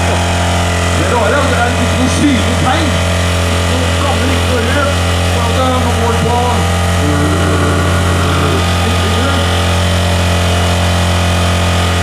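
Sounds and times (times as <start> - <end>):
car engine at high revs: 0.0 - 12.0
tyres spinning: 0.0 - 12.0.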